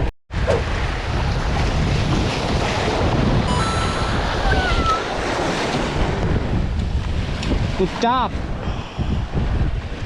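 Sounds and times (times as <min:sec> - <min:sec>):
wind buffeting microphone: 0:00.0 - 0:10.0
surf washing on shore: 0:00.3 - 0:10.0.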